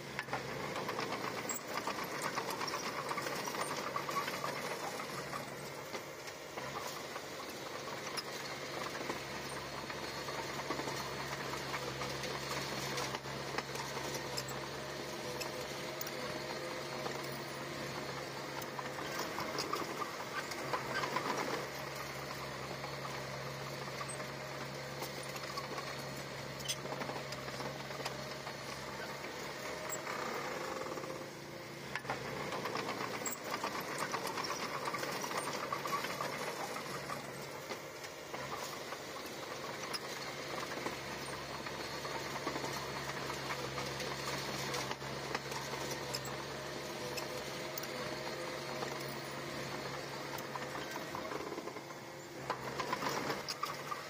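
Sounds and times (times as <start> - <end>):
bulldozer diesel engine clattering: 0.0 - 54.0.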